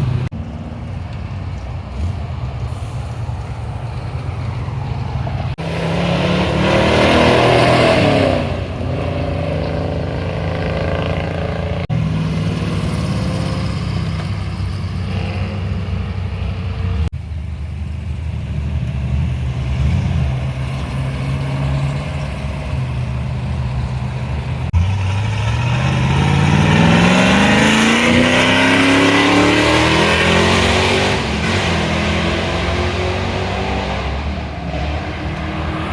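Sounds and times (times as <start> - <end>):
car engine revving: 4.9 - 17.1, 18.4 - 35.9.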